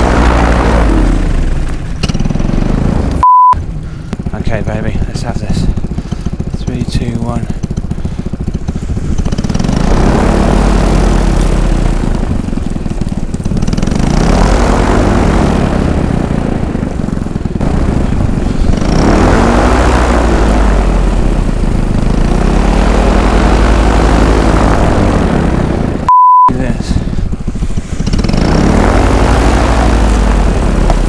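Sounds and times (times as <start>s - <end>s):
paramotor engine revving: 0.0s - 26.1s, 26.7s - 31.0s
wind buffeting microphone: 3.1s - 31.0s.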